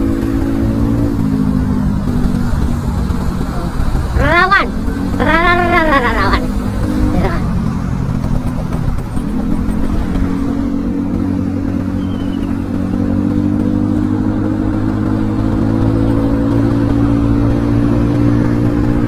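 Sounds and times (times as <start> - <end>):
scooter engine accelerating: 0.0 - 19.0.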